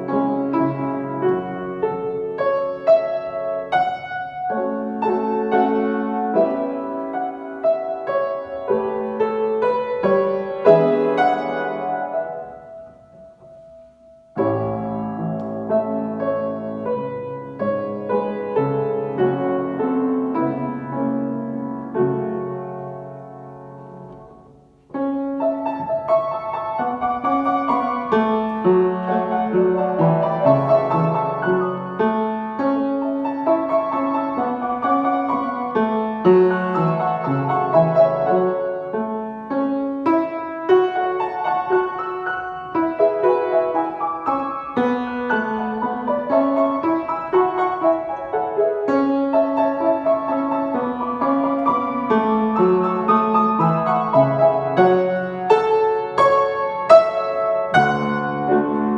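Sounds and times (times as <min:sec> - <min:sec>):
slow lyrical piano piece: 0:00.0 - 0:58.9.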